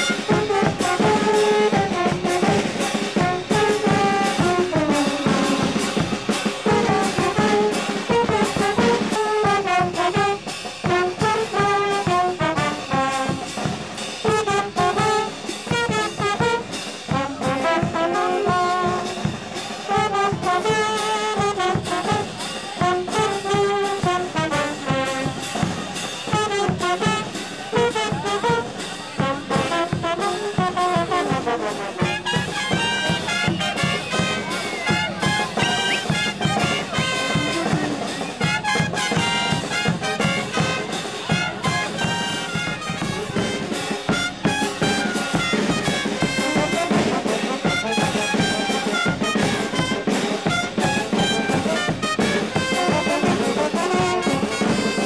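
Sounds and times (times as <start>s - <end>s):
brass horns melody: 0.0s - 55.0s
steady drum beat: 0.0s - 55.0s.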